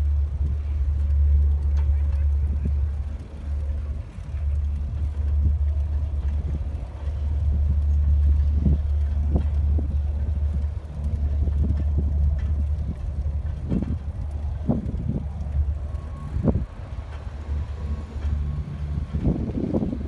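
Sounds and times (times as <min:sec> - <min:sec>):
bicycle knocks and rattles: 0:00.0 - 0:17.3
wind rumbling on microphone: 0:00.0 - 0:20.0.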